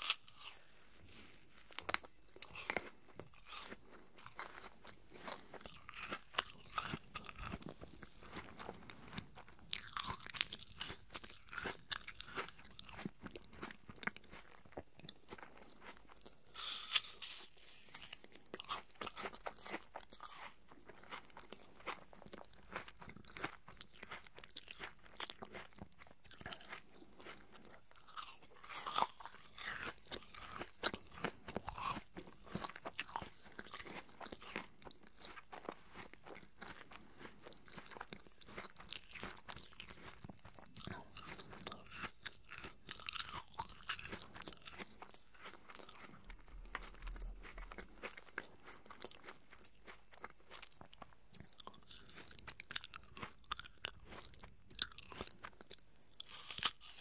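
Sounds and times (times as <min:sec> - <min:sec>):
chewing crisp apple: 0:00.0 - 0:57.0.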